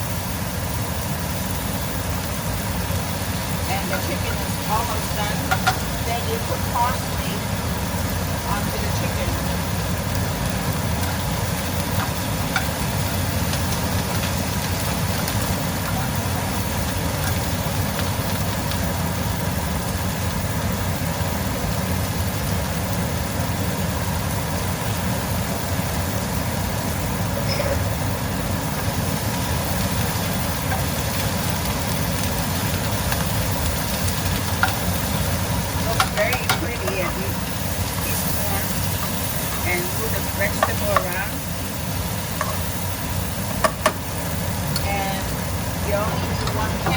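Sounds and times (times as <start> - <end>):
food sizzling in pans: 0.0 - 46.9.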